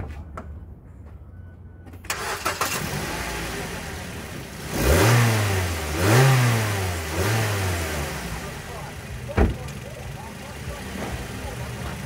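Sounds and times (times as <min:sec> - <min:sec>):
car engine starting and revving: 0:02.1 - 0:12.0.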